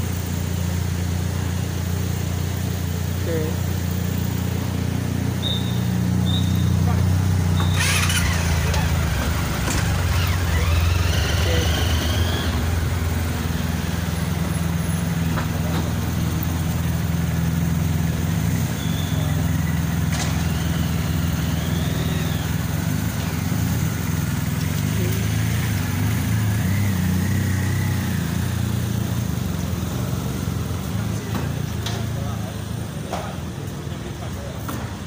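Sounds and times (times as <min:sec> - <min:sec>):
car engines idling and moving off: 0:00.0 - 0:35.0.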